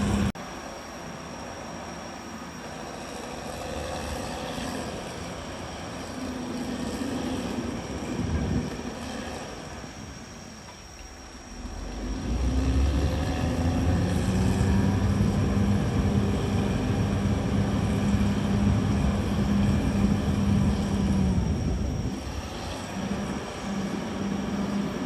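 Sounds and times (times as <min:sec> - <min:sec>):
bulldozer diesel engine droning: 0:00.0 - 0:00.4, 0:02.7 - 0:25.0.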